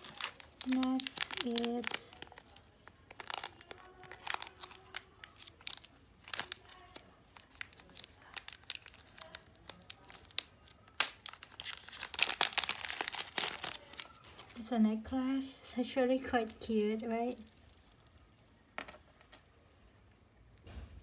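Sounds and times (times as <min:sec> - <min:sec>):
plastic bag crinkling: 0:00.0 - 0:19.5.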